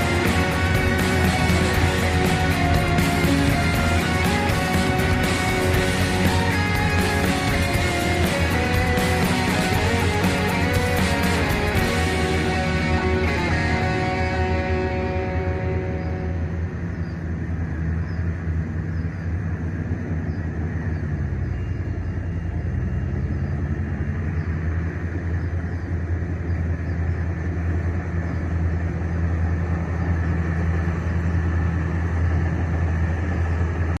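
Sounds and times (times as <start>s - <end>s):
harvester engine humming: 0.0s - 34.0s.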